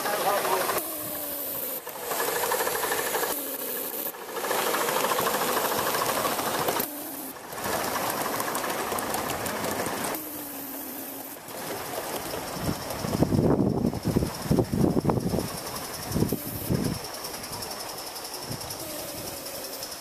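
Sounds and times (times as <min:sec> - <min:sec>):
steam exhaust hiss and chatter: 0:00.0 - 0:20.0.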